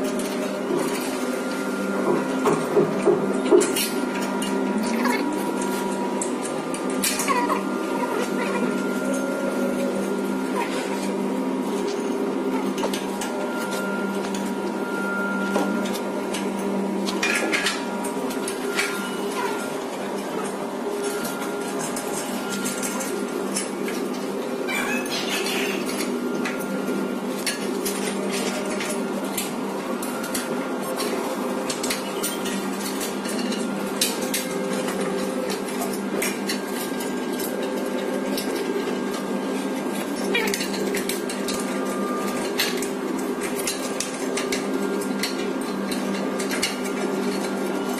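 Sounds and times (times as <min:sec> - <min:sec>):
steady mechanical hum: 0:00.0 - 0:47.9.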